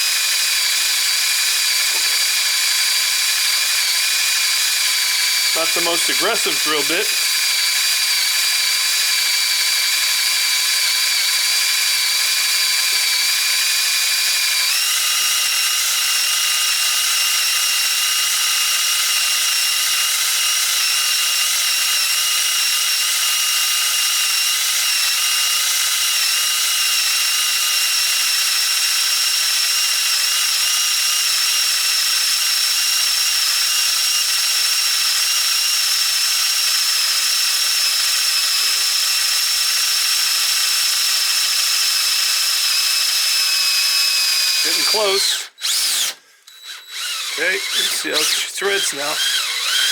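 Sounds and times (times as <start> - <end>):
drill motor whining: 0.0 - 49.9.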